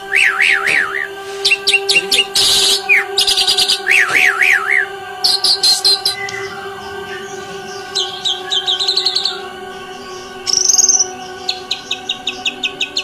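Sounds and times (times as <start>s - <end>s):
bird singing: 0.0s - 13.0s.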